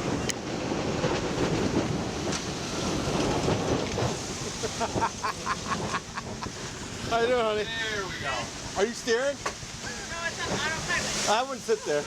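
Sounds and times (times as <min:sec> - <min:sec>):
waves rushing and splashing: 0:00.0 - 0:12.0
wind buffeting microphone: 0:00.0 - 0:12.0.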